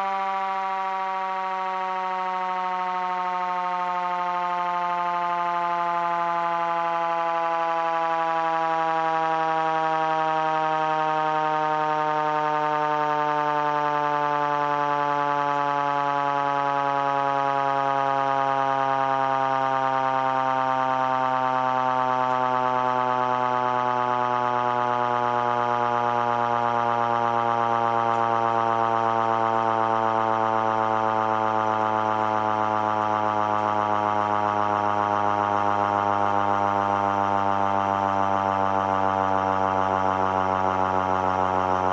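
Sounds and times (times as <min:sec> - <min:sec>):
mechanical siren wailing: 0:00.0 - 0:41.9.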